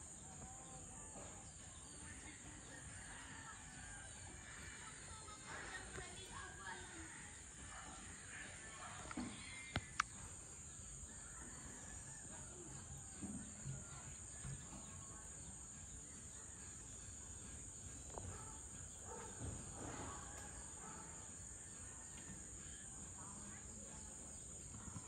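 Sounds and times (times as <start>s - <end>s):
faint distant sounds: 0.0s - 25.0s.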